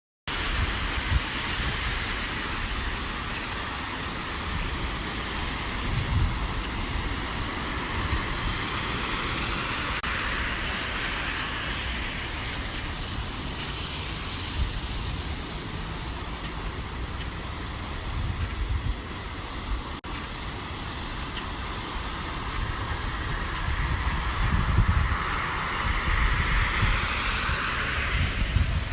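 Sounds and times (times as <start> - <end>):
heavy rain: 0.3 - 28.9
running floodwater: 0.3 - 28.9
wind buffeting microphone: 0.3 - 28.9.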